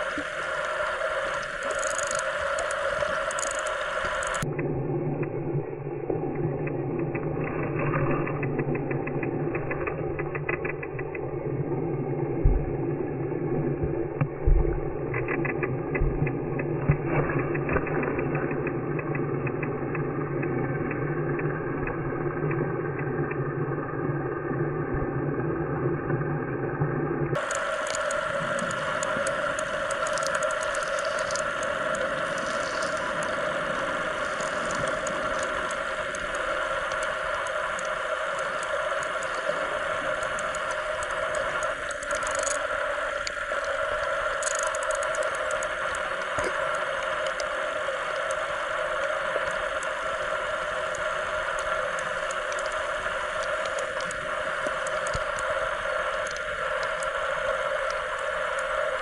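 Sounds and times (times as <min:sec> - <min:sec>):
motor droning hum: 0:00.0 - 0:59.0.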